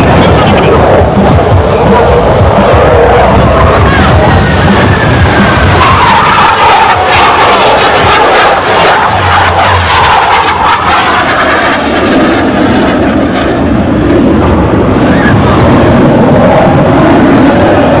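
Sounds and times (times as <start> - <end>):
aircraft flying past overhead: 0.0 - 18.0.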